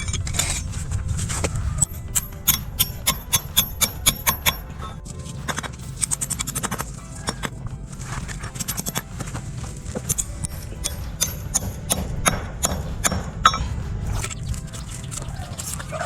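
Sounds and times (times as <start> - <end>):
construction knocks and clatter: 0.0 - 16.0
steady low rumble: 0.0 - 16.0.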